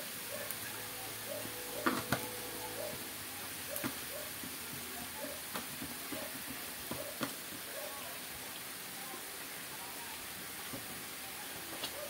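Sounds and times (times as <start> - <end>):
food sizzling in pans: 0.0 - 12.0.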